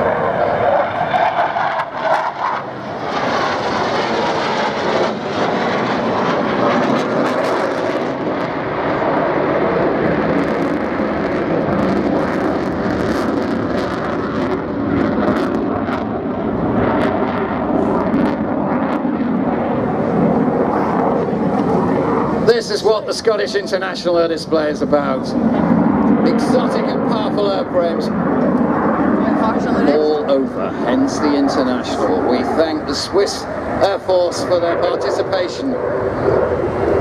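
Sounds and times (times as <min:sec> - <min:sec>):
jet flying past: 0:00.0 - 0:37.0.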